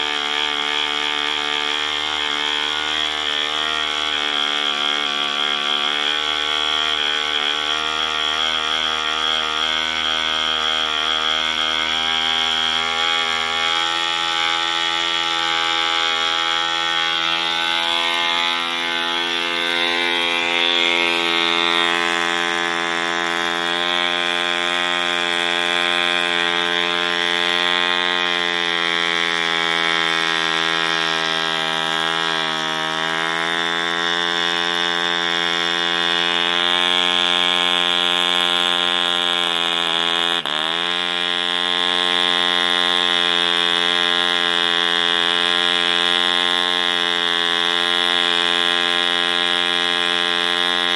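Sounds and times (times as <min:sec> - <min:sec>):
model engine running: 0:00.0 - 0:50.9.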